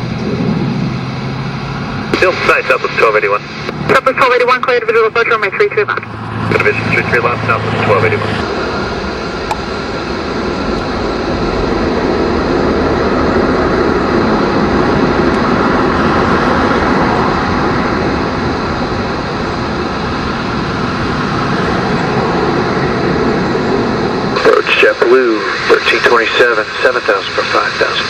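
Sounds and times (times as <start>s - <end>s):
aircraft drone: 0.0s - 28.0s.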